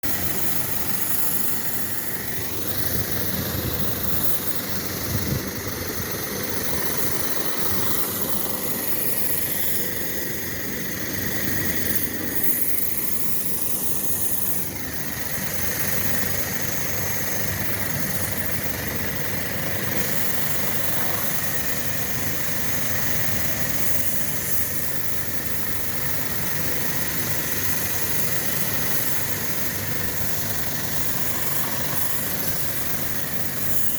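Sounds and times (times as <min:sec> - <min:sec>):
air conditioning unit humming: 0:00.0 - 0:33.9.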